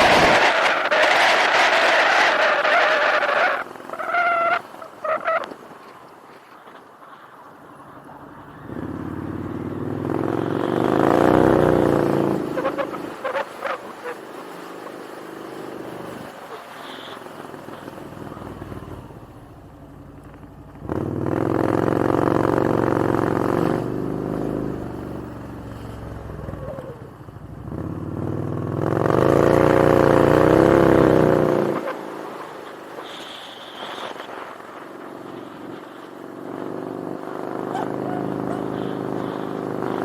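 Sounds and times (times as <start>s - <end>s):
motorcycle engine accelerating: 0.0s - 4.7s, 8.1s - 16.5s, 17.4s - 32.5s, 33.7s - 40.0s.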